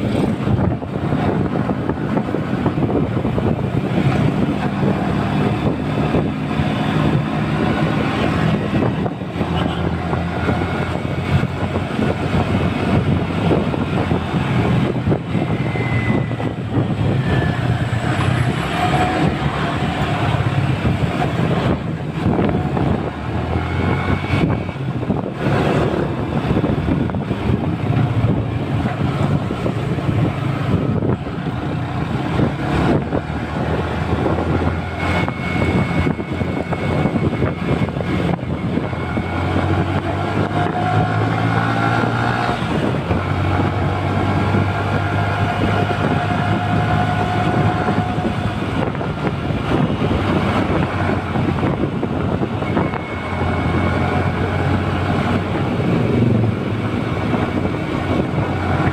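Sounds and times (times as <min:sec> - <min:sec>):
road and wind noise: 0:00.0 - 0:58.9.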